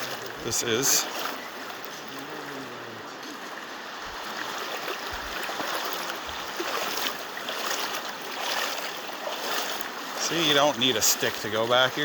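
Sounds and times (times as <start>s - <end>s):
water splashing around wading legs: 0.0s - 12.0s.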